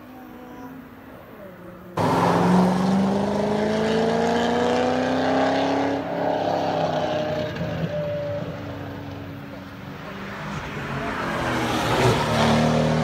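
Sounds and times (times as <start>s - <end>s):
sports car engines accelerating: 2.0s - 13.0s.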